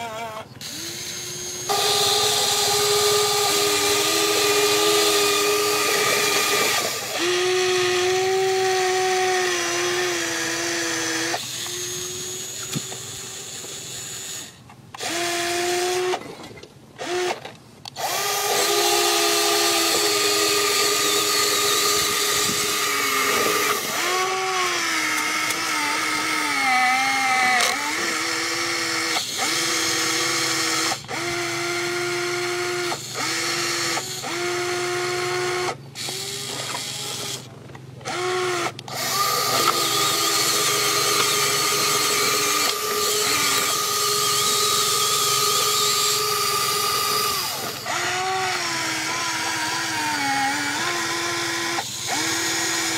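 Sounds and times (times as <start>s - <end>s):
toy excavator motors whining: 0.0s - 52.9s.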